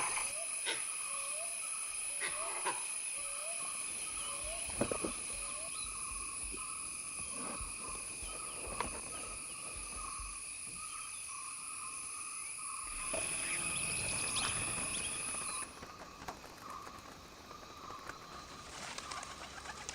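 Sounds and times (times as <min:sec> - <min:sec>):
pulsing lower insect trill: 0:00.0 - 0:18.7
high-pitched insect trills: 0:00.0 - 0:19.9.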